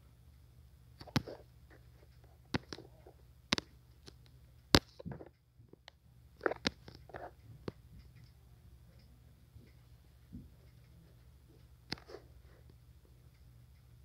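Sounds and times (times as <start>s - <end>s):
faint low hum: 0.0s - 14.0s
sharp irregular clicks and taps: 1.0s - 13.9s.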